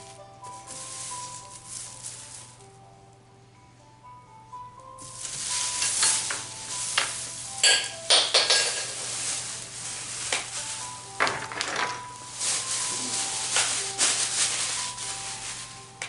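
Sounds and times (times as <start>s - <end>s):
handling rustling and scraping: 0.0s - 2.7s, 5.0s - 16.0s
soft background music: 0.0s - 16.0s.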